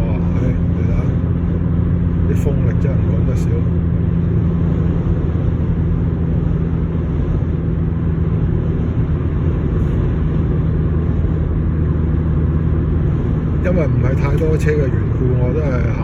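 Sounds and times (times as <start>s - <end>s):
tyre and engine rumble: 0.0s - 16.0s
wind rushing against car: 0.0s - 16.0s.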